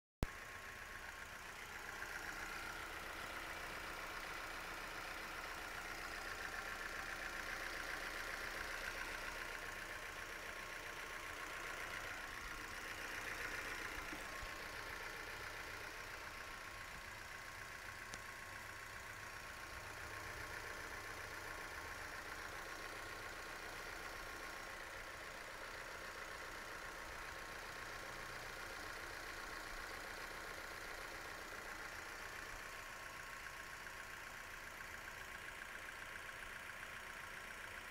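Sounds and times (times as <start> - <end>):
car engine idling: 0.2 - 37.9.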